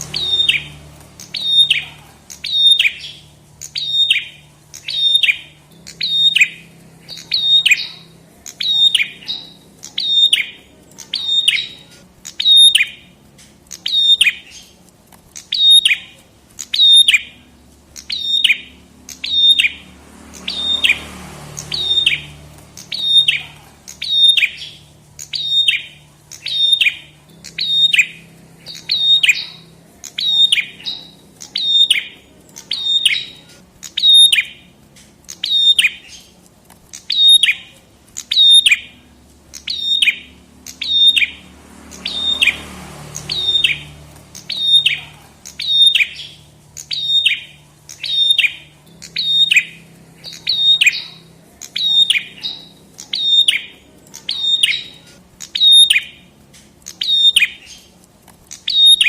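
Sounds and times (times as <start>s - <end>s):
bird calling sharp chips: 0.0s - 59.0s.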